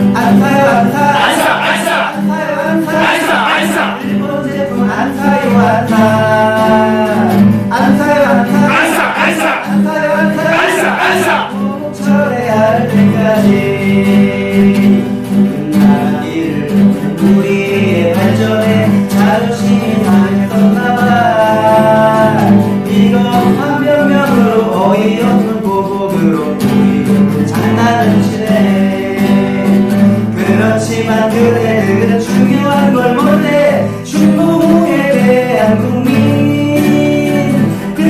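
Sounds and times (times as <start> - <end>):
acoustic guitar strumming: 0.0 - 38.0
man singing: 0.0 - 38.0.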